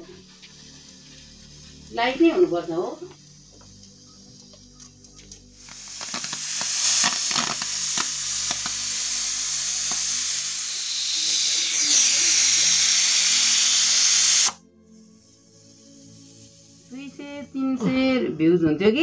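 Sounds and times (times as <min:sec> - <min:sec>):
pressure cooker steam hissing: 0:00.0 - 0:04.9, 0:05.5 - 0:17.7.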